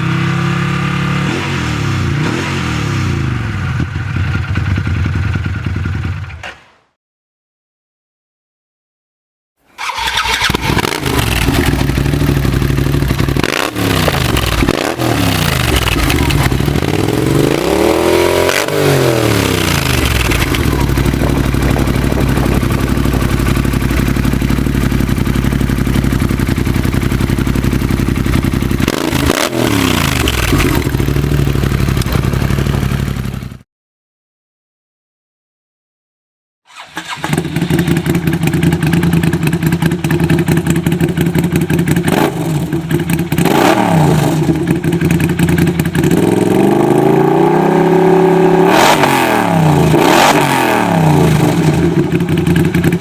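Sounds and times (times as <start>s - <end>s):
engine idling and revving: 0.0s - 6.4s, 9.8s - 33.6s, 36.7s - 53.0s.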